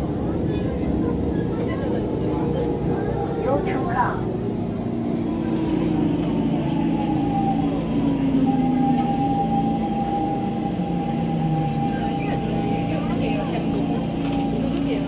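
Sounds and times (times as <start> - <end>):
train running gear rumble: 0.0 - 15.0
train motors whining: 2.3 - 15.0.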